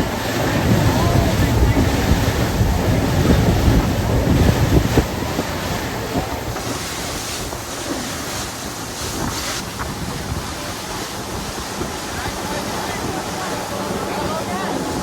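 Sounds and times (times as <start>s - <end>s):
water rushing past boat: 0.0s - 15.0s
wind buffeting microphone: 0.0s - 15.0s.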